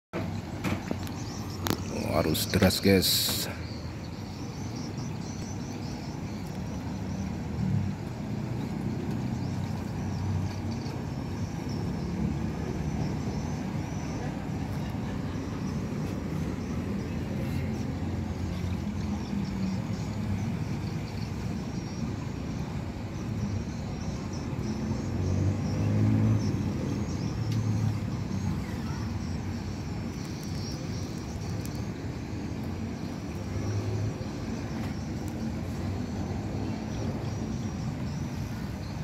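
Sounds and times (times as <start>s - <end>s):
low engine rumble: 0.2s - 39.0s.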